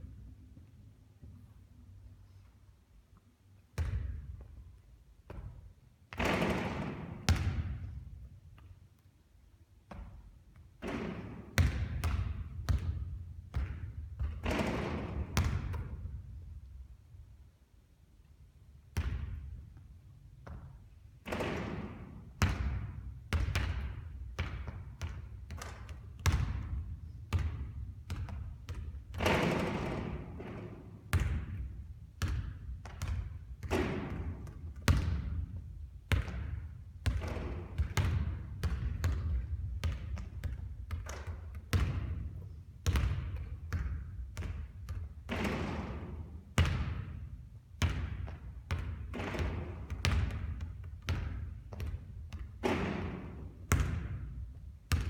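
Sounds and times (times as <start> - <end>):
basketball bouncing: 3.8 - 4.5, 5.3 - 8.7, 9.9 - 16.6, 18.9 - 55.0.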